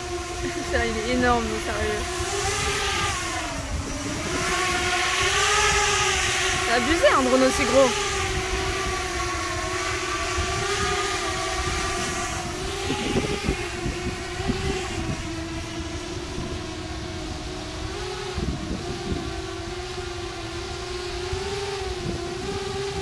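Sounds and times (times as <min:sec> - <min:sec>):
drone propeller hum: 0:00.0 - 0:23.0.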